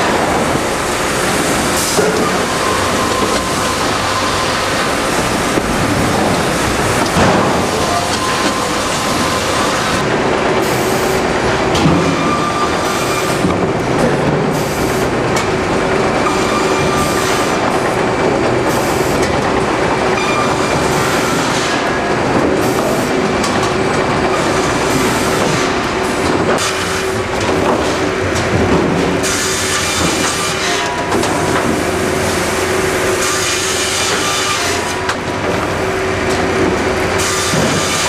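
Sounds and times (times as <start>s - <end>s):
constant machine hum: 0.0s - 38.0s
sawmill machinery rattling: 0.0s - 38.0s.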